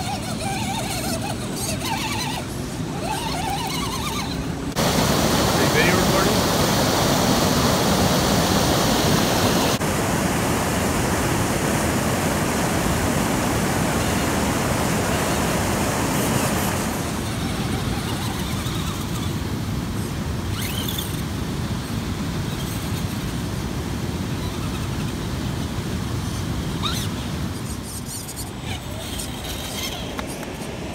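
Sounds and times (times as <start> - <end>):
steady outdoor rushing noise: 0.0 - 30.9.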